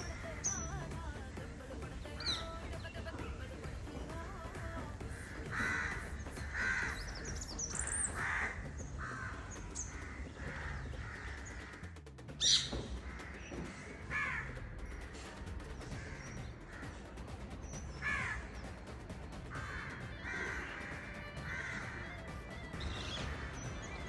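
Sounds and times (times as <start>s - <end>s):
crows cawing: 0.0s - 24.0s
small birds chirping: 0.0s - 24.0s.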